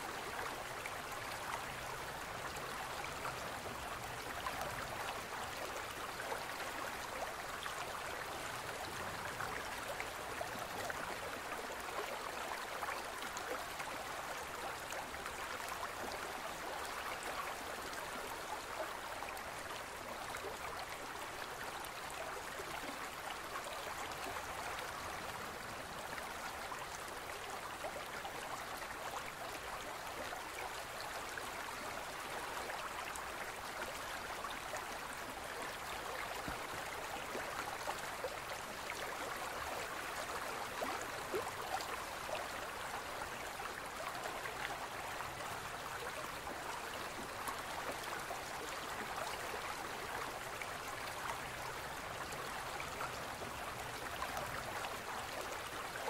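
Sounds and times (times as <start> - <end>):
stream of running water: 0.0 - 56.0.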